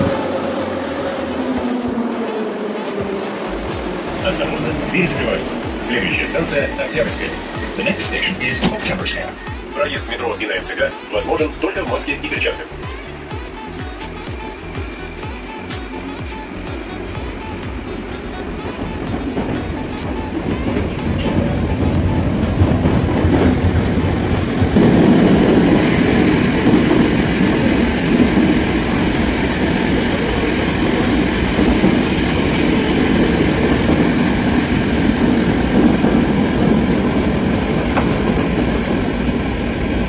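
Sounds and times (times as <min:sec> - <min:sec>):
metro train running in tunnel: 0:00.0 - 0:40.0.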